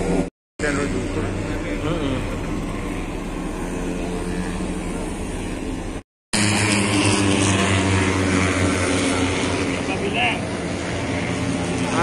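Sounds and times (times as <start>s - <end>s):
outdoor noise: 0.0s - 12.0s
vehicle engines humming: 0.0s - 12.0s.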